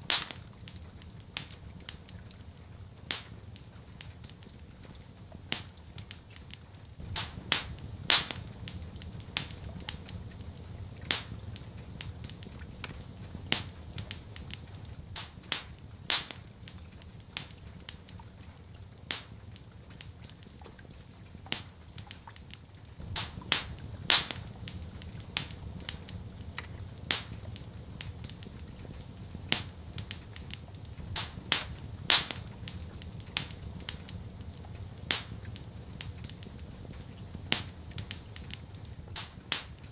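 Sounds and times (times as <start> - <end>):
wood fire crackling: 0.0 - 39.9
steady low rumble: 6.9 - 20.4, 21.2 - 39.9.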